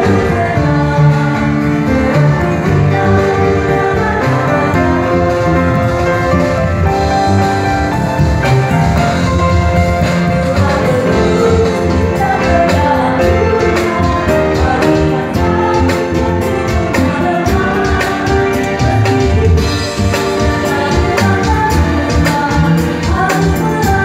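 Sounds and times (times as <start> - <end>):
church band playing a hymn: 0.0 - 24.0
steady drum beat: 0.0 - 24.0.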